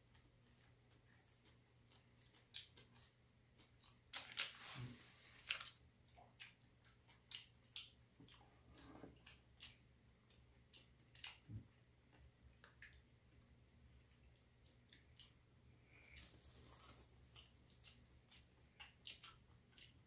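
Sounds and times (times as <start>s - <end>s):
chewing: 0.0s - 4.2s, 5.5s - 20.0s.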